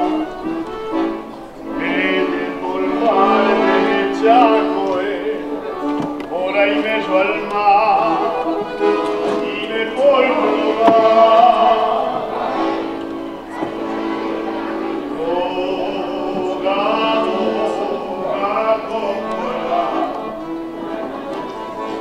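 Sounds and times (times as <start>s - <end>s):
accordion chords: 0.0s - 22.0s
operatic singing with vibrato: 0.0s - 22.0s.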